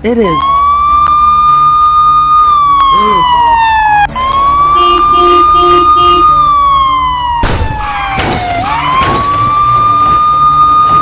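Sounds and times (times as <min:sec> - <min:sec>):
police siren wailing: 0:00.1 - 0:11.0.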